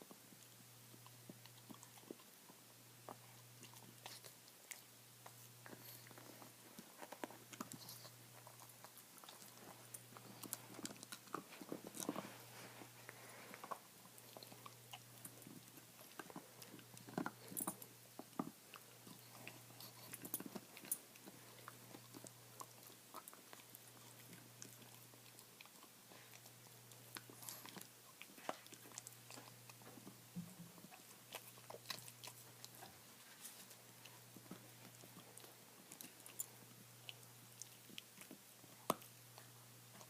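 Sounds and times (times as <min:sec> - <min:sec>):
dog gnawing on a bone: 0:00.0 - 0:40.0.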